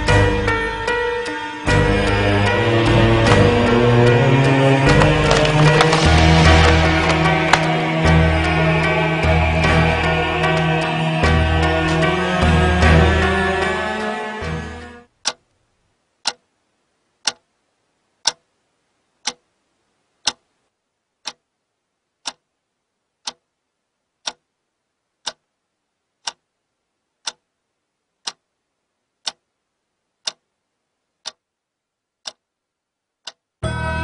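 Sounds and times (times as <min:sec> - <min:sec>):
clock ticking: 0:00.0 - 0:18.6, 0:19.2 - 0:19.6, 0:20.2 - 0:20.5, 0:21.2 - 0:21.6, 0:22.2 - 0:22.6, 0:23.2 - 0:24.6, 0:25.2 - 0:28.6, 0:29.2 - 0:30.6, 0:31.2 - 0:31.6, 0:32.2 - 0:32.6, 0:33.2 - 0:33.8.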